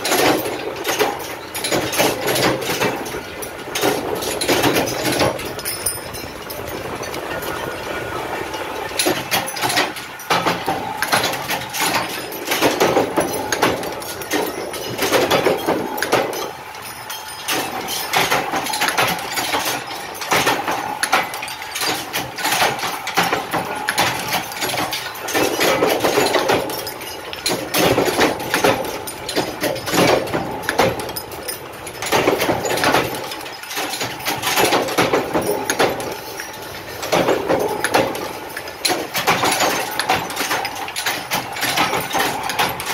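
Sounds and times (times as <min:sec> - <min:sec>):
metallic clatter: 0:00.0 - 0:42.9
power press running: 0:00.0 - 0:42.9.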